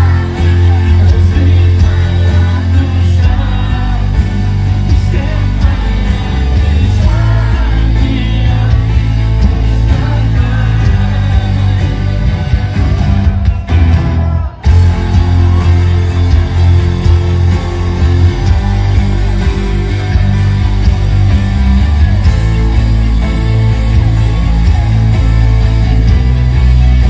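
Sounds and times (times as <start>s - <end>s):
pop song with singer and band: 0.0s - 27.0s.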